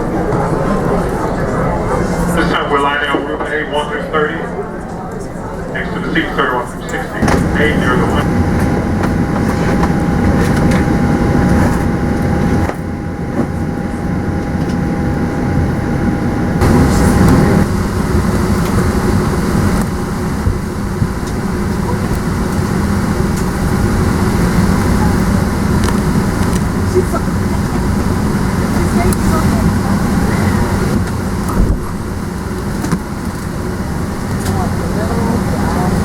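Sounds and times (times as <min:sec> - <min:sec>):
indistinct voices: 0:00.0 - 0:19.0, 0:21.3 - 0:32.6, 0:33.2 - 0:36.0
steady rumble and hum: 0:00.0 - 0:36.0.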